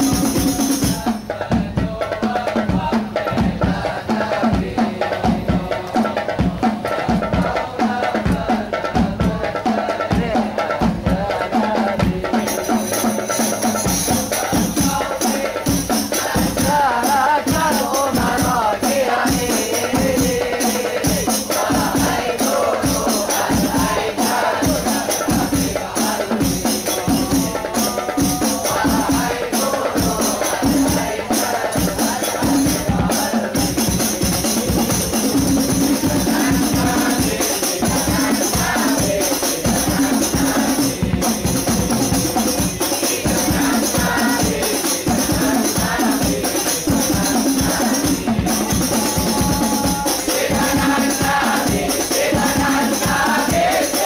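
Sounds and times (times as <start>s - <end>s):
frame drums beating: 0.0s - 54.0s
men singing together: 0.0s - 54.0s.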